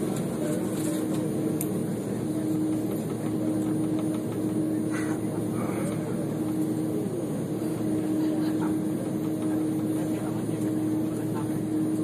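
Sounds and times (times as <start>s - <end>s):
airliner engines humming: 0.0s - 12.0s.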